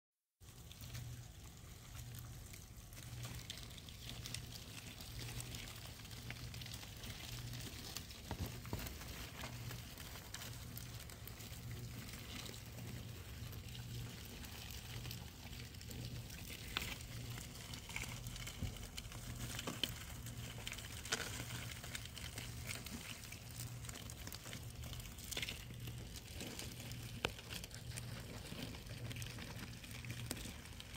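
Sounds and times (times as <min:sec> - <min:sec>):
insects munching crackle: 0:00.4 - 0:30.9.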